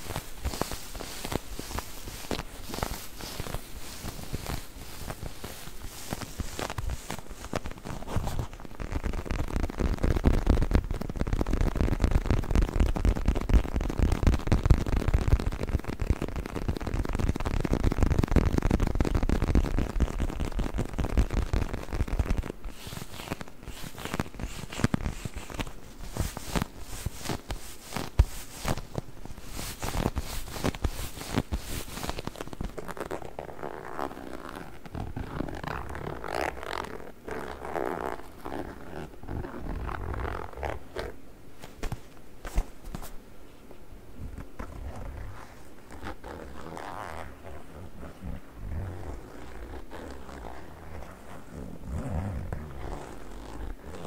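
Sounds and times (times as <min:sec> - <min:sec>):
leather pillow squeezing and rubbing: 0:00.0 - 0:43.2, 0:44.2 - 0:54.0
sharp scratching on leather: 0:00.0 - 0:43.2, 0:44.4 - 0:54.0.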